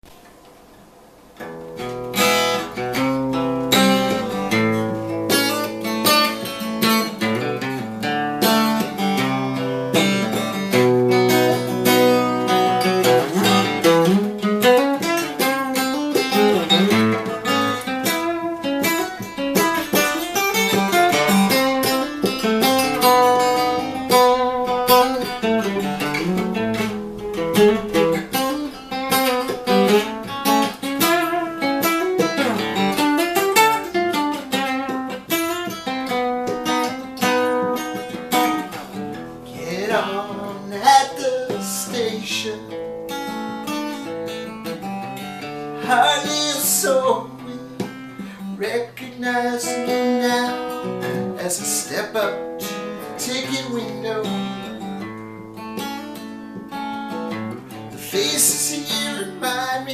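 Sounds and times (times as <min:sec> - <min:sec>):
acoustic guitar picked and strummed: 0:00.0 - 0:59.9.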